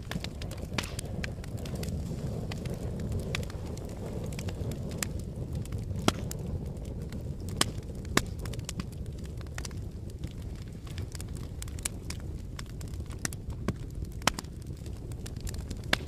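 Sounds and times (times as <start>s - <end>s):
fire crackling and rumbling: 0.0s - 16.0s
sharp pops from fire: 0.0s - 16.0s.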